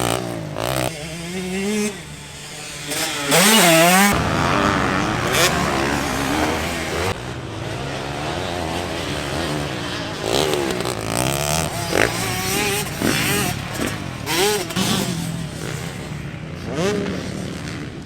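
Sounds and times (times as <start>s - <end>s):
motocross bike engines racing: 0.0s - 18.0s.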